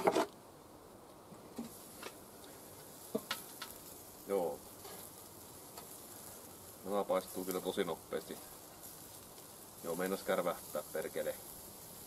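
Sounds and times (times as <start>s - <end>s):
faint sizzle: 0.3s - 12.0s.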